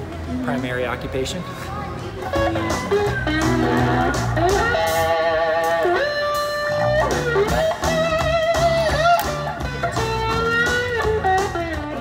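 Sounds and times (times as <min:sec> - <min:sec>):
bass line: 0:02.3 - 0:12.0
blues electric guitar: 0:02.3 - 0:12.0.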